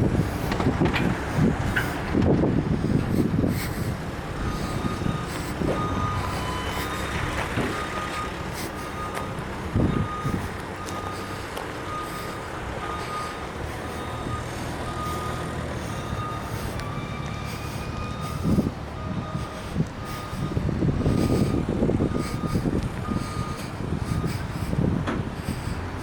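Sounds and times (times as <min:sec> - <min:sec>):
truck engine running: 0:00.0 - 0:26.0
vehicle backup alarm beeping: 0:00.0 - 0:26.0
wind gusting on microphone: 0:00.0 - 0:26.0.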